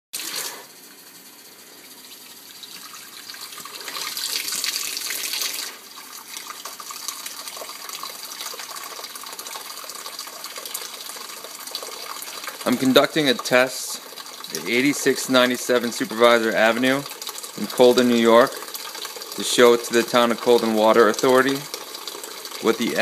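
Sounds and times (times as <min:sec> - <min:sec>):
faucet water splashing into bucket: 0:00.2 - 0:00.7, 0:01.7 - 0:23.0.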